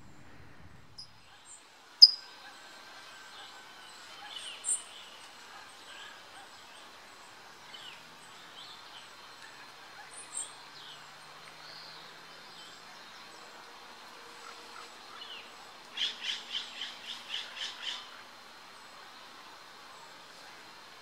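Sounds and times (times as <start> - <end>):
songbird chirps: 1.0 - 21.0.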